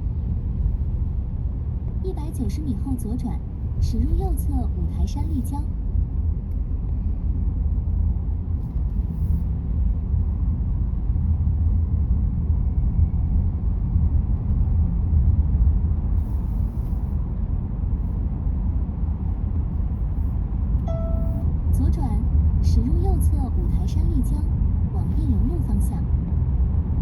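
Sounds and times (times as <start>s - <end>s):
road and tyre noise in car: 0.0s - 27.0s.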